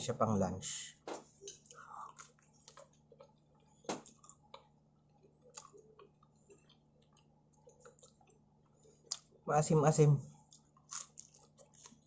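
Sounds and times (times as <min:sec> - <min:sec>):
chewing pizza: 0:01.3 - 0:09.4, 0:10.3 - 0:12.0.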